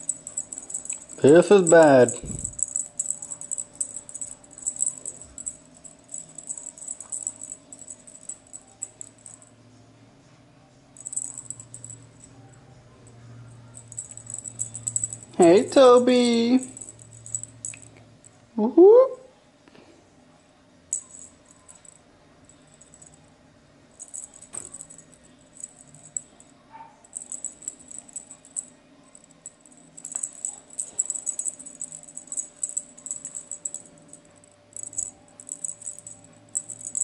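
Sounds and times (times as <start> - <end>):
small jingle bell jingling: 0.0 - 9.5, 11.0 - 18.4, 20.9 - 23.3, 24.0 - 37.0.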